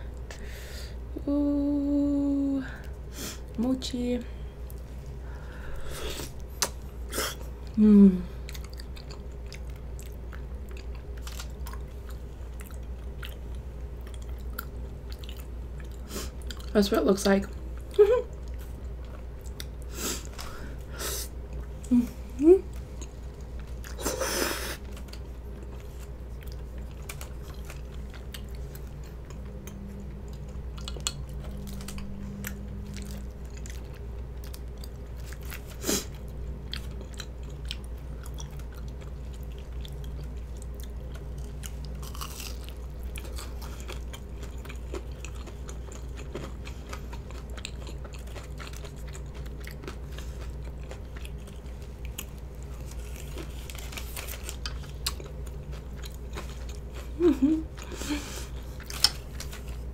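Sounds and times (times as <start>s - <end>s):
person chewing: 4.6s - 16.7s, 17.5s - 22.0s, 22.6s - 59.9s.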